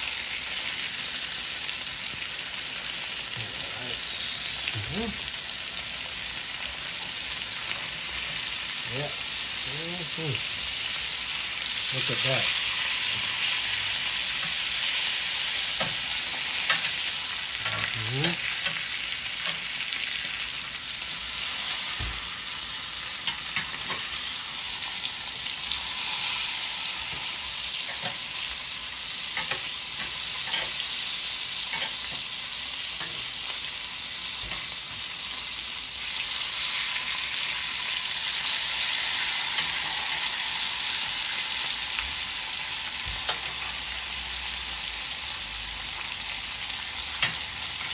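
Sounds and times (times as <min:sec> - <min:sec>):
steaks sizzling in a pan: 0:00.0 - 0:47.9.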